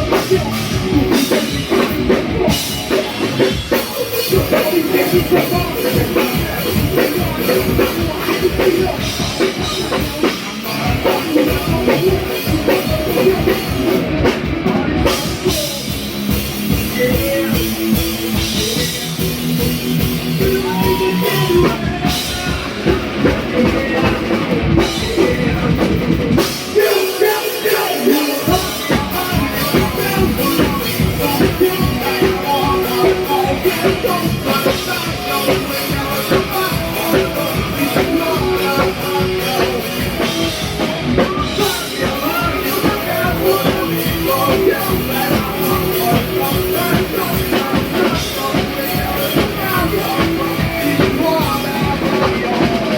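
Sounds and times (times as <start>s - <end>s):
drum kit: 0.0s - 52.9s
electric guitars: 0.0s - 52.9s
rock band playing: 0.0s - 52.9s.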